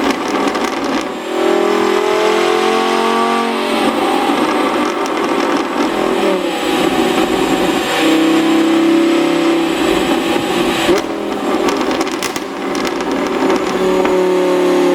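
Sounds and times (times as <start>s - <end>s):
car engine revving: 0.0s - 14.9s
exhaust crack: 0.0s - 14.9s.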